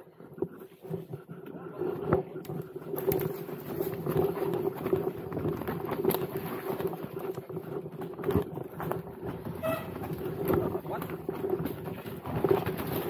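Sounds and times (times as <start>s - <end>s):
steady low hum: 0.0s - 13.0s
bike knocking and rattling on rocks: 2.0s - 13.0s.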